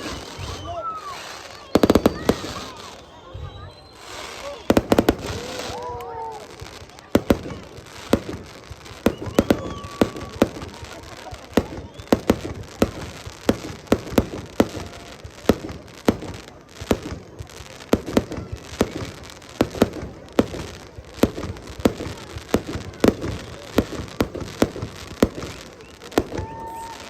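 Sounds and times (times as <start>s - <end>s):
fireworks bangs and pops: 0.0s - 27.0s
fireworks crackling: 0.0s - 27.0s.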